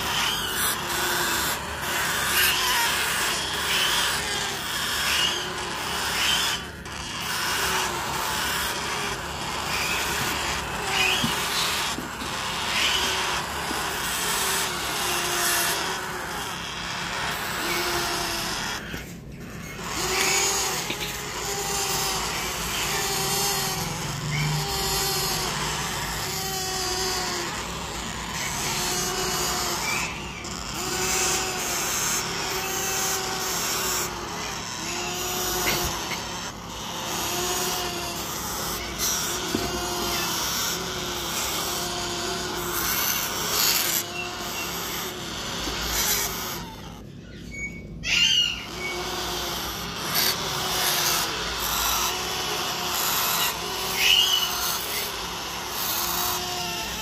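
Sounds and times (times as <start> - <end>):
parrot chicks begging: 0.0 - 57.0.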